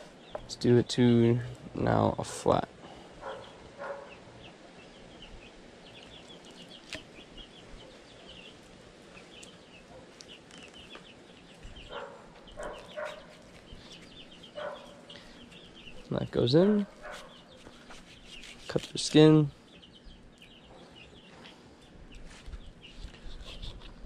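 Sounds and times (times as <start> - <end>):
lower louder bird calls: 2.8 - 24.0.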